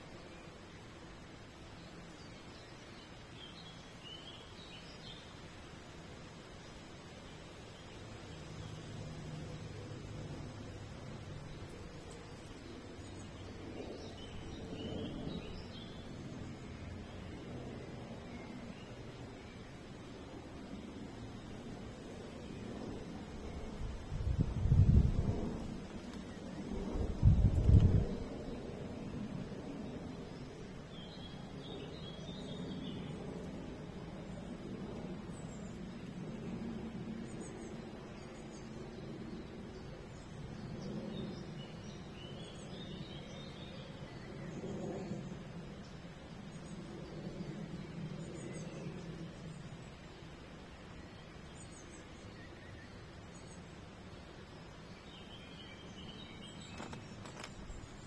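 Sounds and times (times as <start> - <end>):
faint birds chirping: 0.0 - 58.0
outdoor background hiss: 0.0 - 58.0.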